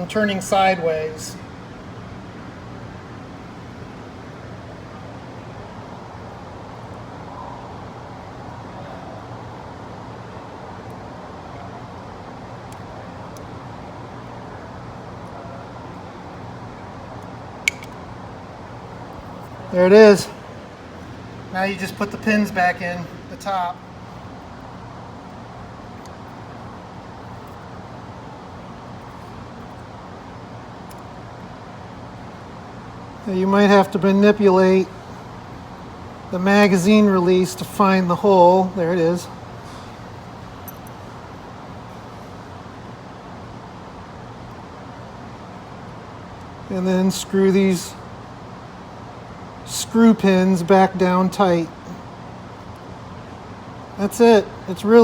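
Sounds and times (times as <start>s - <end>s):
background hum: 0.0s - 55.0s.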